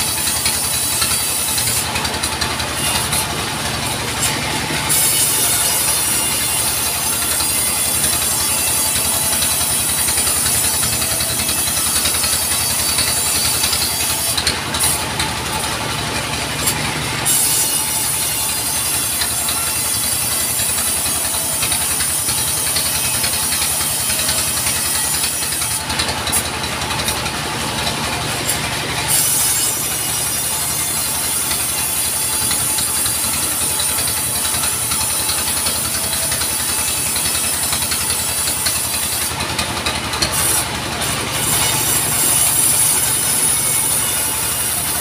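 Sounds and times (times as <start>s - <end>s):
saw blade cutting log hiss: 0.0s - 27.8s, 28.4s - 39.6s, 40.2s - 45.0s
sawmill drive throbbing: 0.0s - 45.0s.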